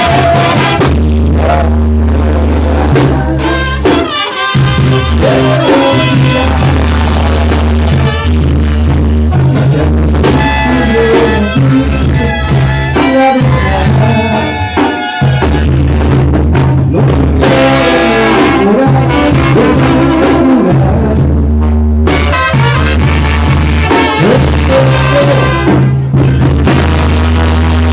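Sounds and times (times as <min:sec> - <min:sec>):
latin music with brass and drums: 0:00.0 - 0:27.9.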